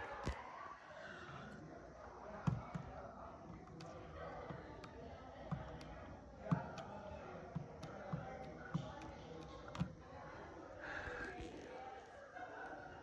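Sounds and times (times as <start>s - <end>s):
faint background voices: 0.0s - 13.0s.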